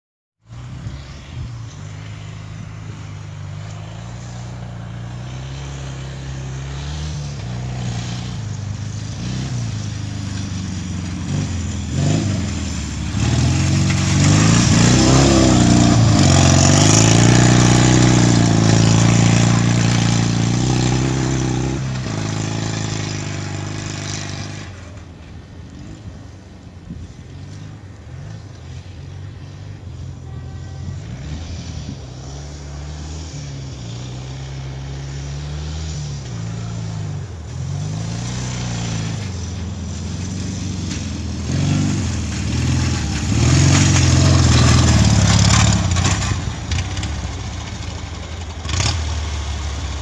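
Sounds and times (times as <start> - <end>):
motorcycle engine passing by: 0.5 - 50.0.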